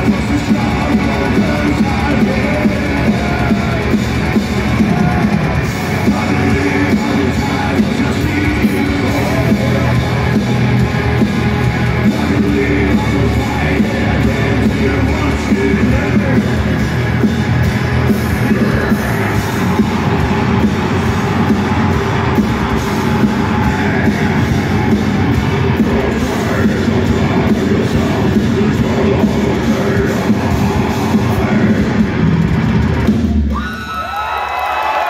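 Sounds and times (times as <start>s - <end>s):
bass guitar: 0.0s - 33.6s
distorted electric guitars: 0.0s - 35.0s
drums: 0.0s - 35.0s.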